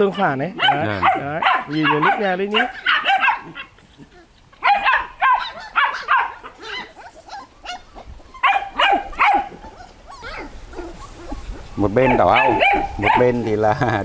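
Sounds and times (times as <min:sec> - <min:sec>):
puppies barking: 0:00.0 - 0:14.0.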